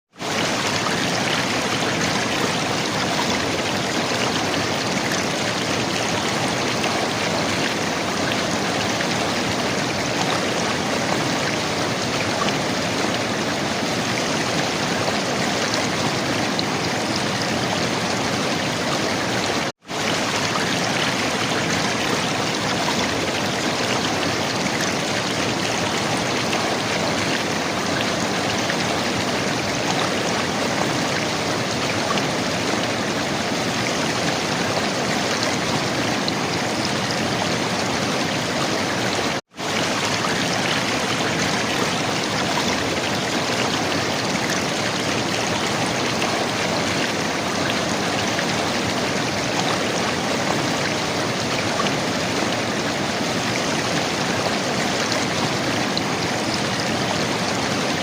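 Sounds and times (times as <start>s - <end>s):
river water flowing: 0.1s - 58.0s.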